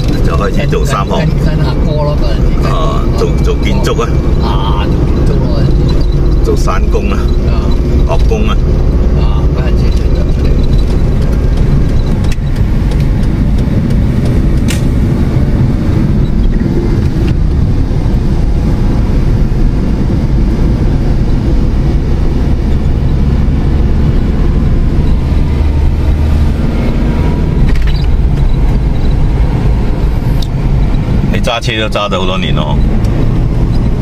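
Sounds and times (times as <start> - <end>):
car engine rumble and road noise: 0.0 - 34.0.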